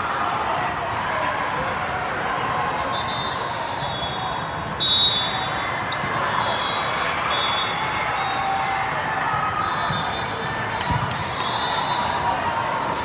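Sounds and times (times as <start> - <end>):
spectator chatter: 0.0 - 13.0.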